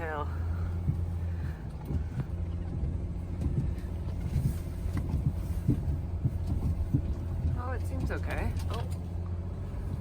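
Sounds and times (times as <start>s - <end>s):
van engine and road rumble: 0.0s - 10.0s
knocks and bumps: 0.6s - 9.2s.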